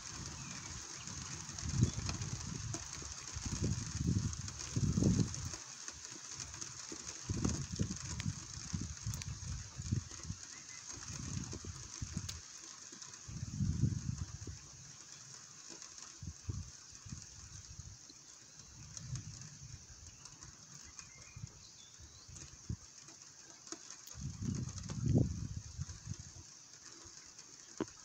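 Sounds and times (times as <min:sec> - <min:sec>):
rain hiss: 0:00.0 - 0:28.0.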